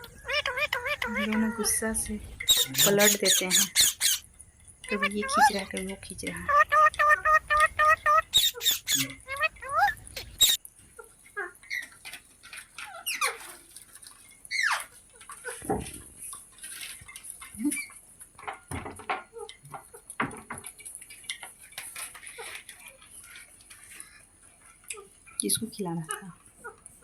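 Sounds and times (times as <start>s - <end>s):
parrots squeaking and chirping: 0.0s - 18.5s, 19.3s - 27.0s.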